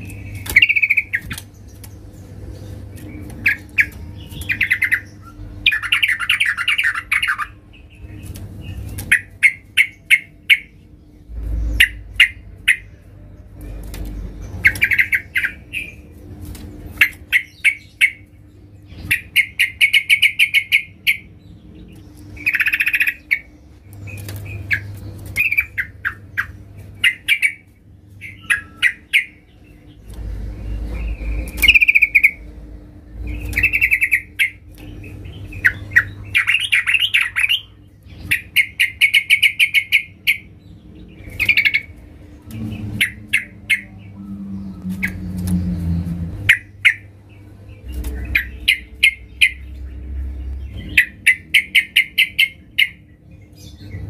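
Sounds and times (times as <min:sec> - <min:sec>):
bird chattering calls: 0:00.0 - 0:01.8, 0:02.8 - 0:10.8, 0:11.7 - 0:13.1, 0:14.5 - 0:16.1, 0:17.0 - 0:21.3, 0:22.4 - 0:30.0, 0:30.6 - 0:32.5, 0:33.2 - 0:53.1.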